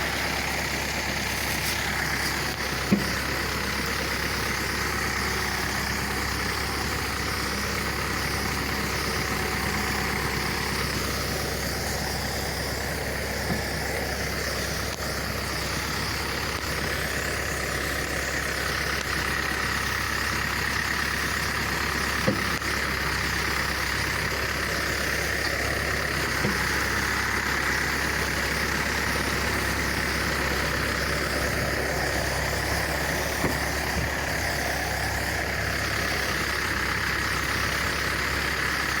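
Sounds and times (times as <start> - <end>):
engine running steadily: 0.0 - 39.0
sprayer pump: 0.0 - 39.0.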